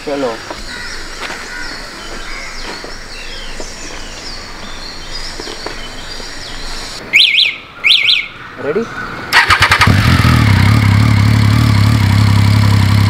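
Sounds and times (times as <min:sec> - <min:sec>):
birds chirping: 0:00.0 - 0:10.8
outdoor background noise: 0:00.0 - 0:13.0.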